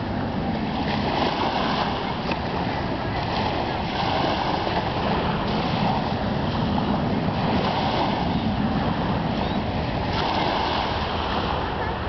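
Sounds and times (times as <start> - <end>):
surf on the beach: 0.0 - 12.0
wind on microphone: 0.0 - 12.0.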